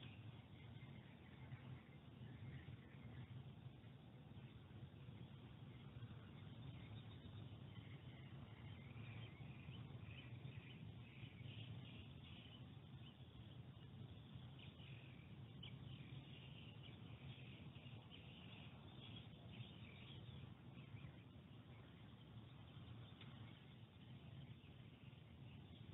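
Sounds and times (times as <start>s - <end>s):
faint birds chirping: 0.0s - 25.9s
low steady hum: 0.0s - 25.9s.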